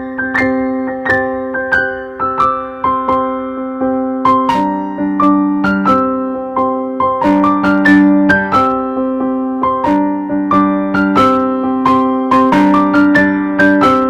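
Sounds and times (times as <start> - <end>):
gentle piano tune: 0.0 - 14.0.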